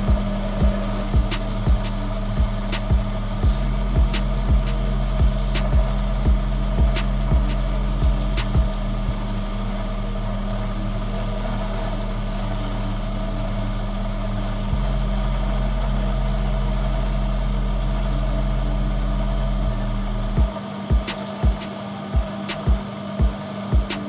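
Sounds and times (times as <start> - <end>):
lathe motor humming: 0.0 - 24.0.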